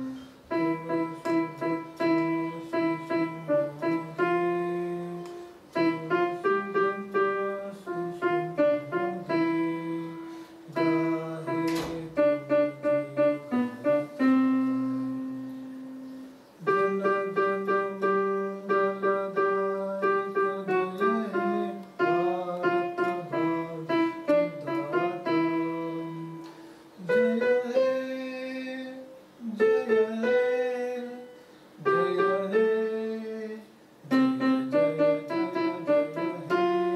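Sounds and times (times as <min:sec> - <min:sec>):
electronic keyboard piano melody: 0:00.0 - 0:33.4, 0:34.1 - 0:36.9.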